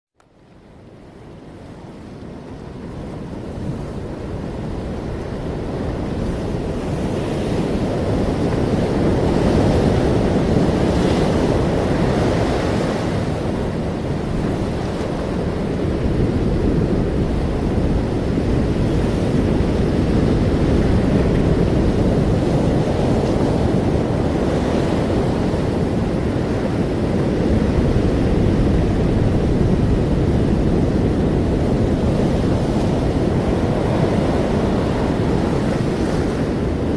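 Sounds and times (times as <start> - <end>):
ocean waves surf: 0.4 - 36.9.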